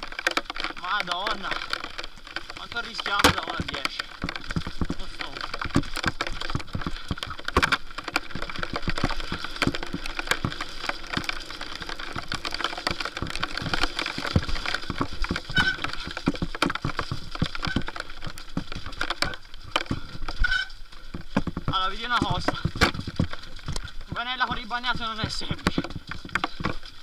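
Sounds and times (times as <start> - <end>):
mountain bike knocking and rattling: 0.0 - 27.0.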